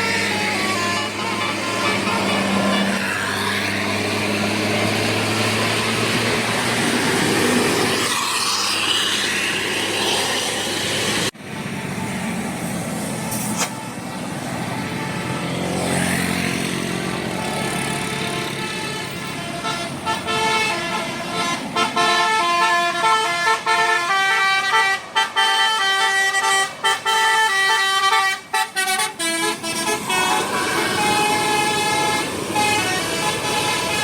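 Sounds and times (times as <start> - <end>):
heavy bus engines: 0.0 - 34.0
traffic noise: 0.0 - 34.0.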